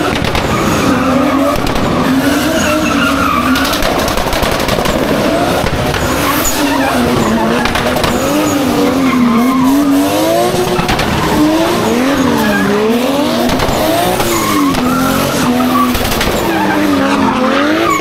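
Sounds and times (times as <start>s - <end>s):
car engine revving hard: 0.0s - 18.0s
tyres skidding and squealing: 0.0s - 18.0s.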